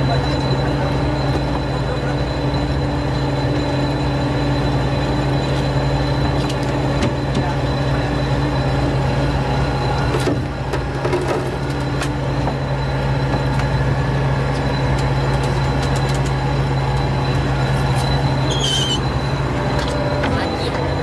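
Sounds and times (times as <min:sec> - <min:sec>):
boat engine drone: 0:00.0 - 0:21.0
high whine: 0:00.0 - 0:21.0.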